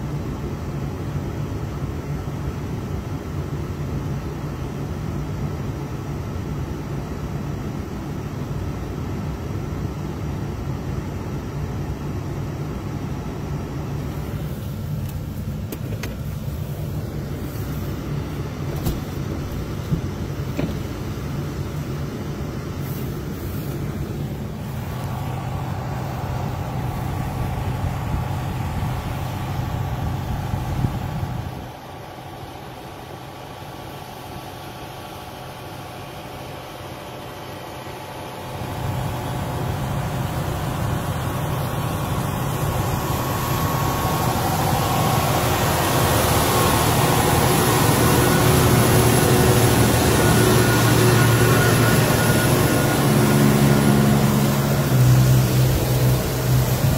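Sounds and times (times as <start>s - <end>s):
vehicle engine and road noise: 0.0s - 56.9s.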